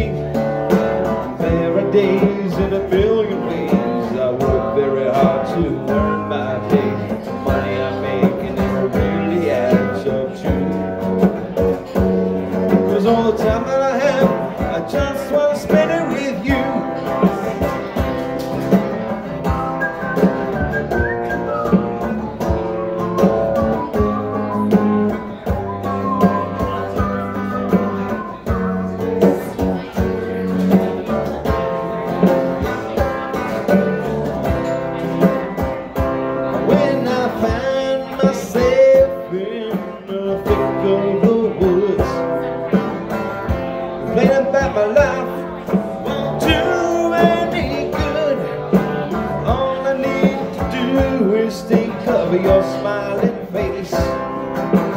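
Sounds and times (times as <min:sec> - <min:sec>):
steady drum beat: 0:00.0 - 0:54.9.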